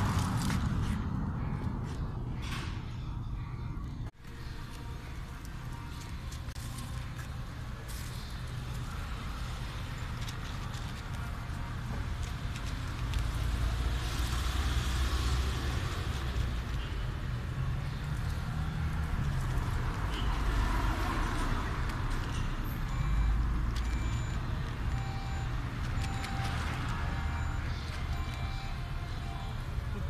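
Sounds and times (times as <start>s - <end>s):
low rumble of street traffic: 0.0s - 30.0s.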